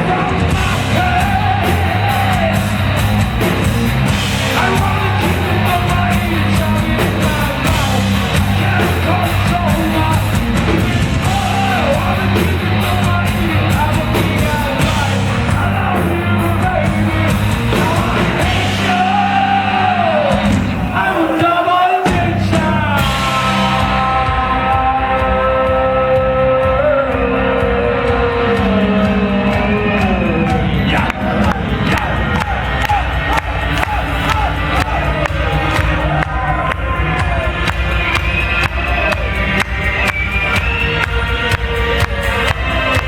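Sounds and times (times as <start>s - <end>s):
hard rock band playing live: 0.0s - 43.0s
person singing: 0.0s - 43.0s.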